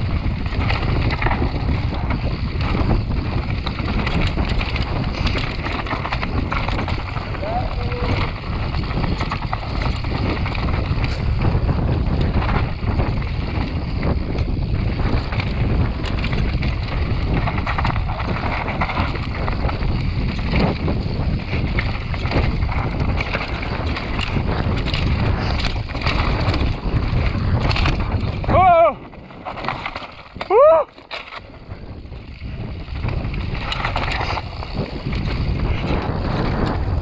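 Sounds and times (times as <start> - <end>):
bike knocks and rattles: 0.0 - 37.0
tyres rolling over rocky dirt: 0.0 - 37.0
wind buffeting microphone: 0.0 - 37.0.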